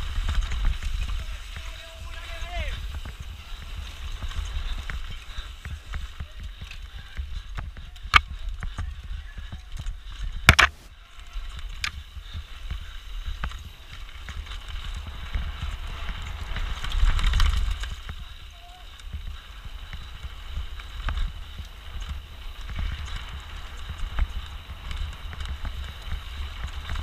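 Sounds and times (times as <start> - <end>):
bike rattling: 0.0 - 27.0
tyres rolling over rock and gravel: 0.0 - 27.0
wind rumble on microphone: 0.0 - 27.0.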